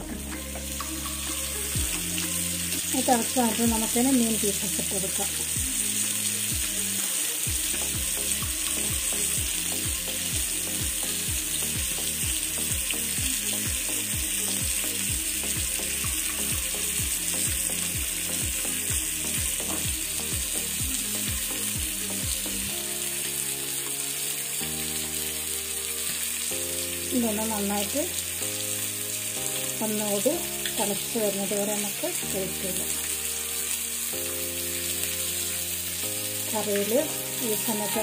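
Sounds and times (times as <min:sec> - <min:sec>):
food sizzling: 0:00.0 - 0:38.0
soft background music: 0:00.0 - 0:38.0.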